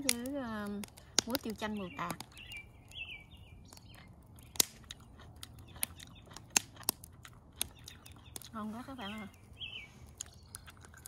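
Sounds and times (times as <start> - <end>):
logs crackling and popping in fire: 0.0 - 11.0
bird chirping: 0.7 - 11.0.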